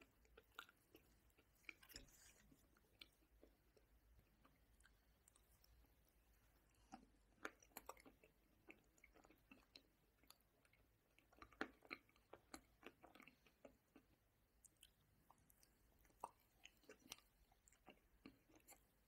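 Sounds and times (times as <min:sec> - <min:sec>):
chewing ice cream with nuts: 0:00.0 - 0:19.0.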